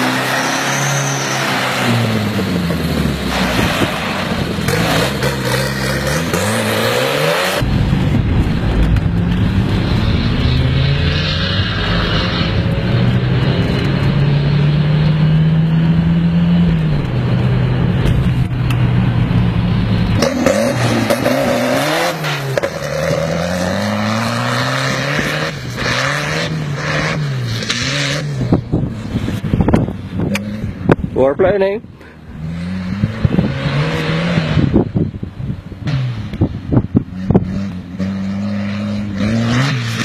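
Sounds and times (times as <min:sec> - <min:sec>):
tractor engine revving: 0:00.0 - 0:34.9
tractor engine at high revs: 0:00.0 - 0:40.0.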